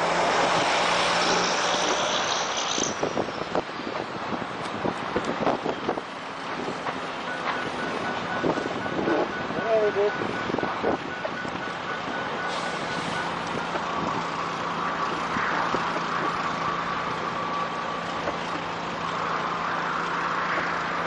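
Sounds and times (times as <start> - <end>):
low engine hum: 0.0 - 21.0
road and wind noise: 0.0 - 21.0.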